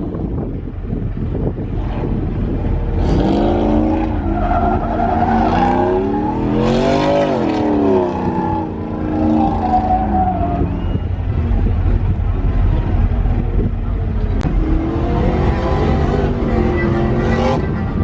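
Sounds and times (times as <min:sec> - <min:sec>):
steady low rumble: 0:00.0 - 0:18.0
vehicle engine revving: 0:00.0 - 0:18.0.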